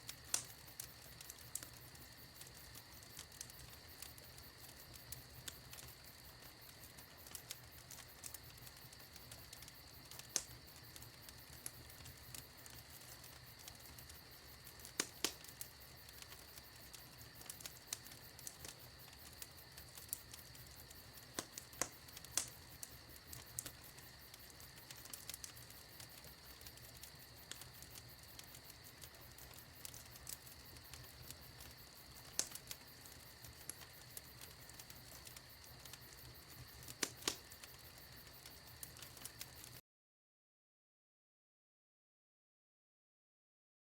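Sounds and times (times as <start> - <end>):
faint steady hiss: 0.0 - 39.8
wood fire crackling: 0.0 - 39.8.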